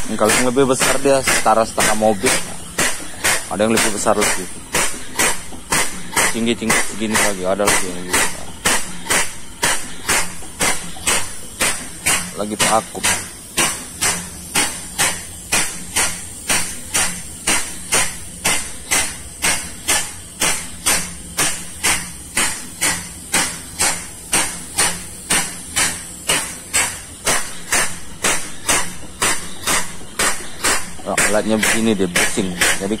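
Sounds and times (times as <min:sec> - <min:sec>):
vacuum pump hissing strokes: 0:00.0 - 0:33.0.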